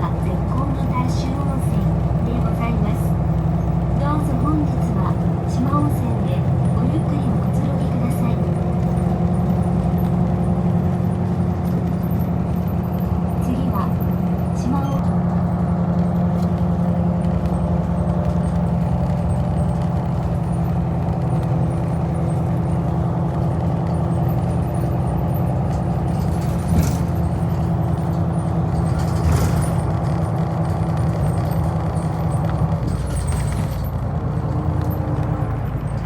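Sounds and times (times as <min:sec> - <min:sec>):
bus engine running: 0:00.0 - 0:36.0
road noise: 0:00.0 - 0:36.0.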